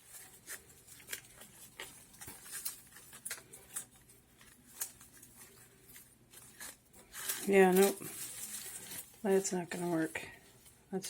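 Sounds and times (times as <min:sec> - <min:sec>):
palm leaves rustling and clicking: 0:00.0 - 0:11.0.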